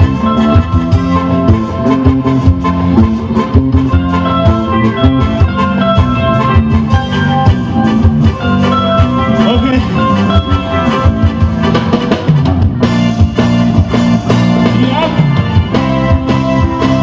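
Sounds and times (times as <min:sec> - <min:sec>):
live rock band playing ska: 0:00.0 - 0:17.0.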